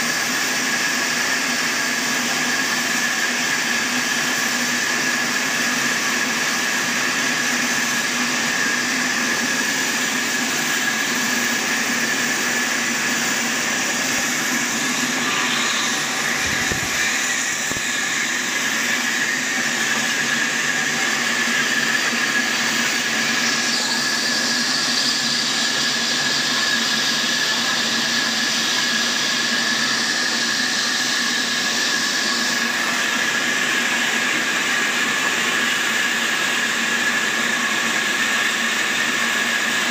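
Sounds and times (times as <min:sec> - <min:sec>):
band saw blade whining: 0:00.0 - 0:39.9.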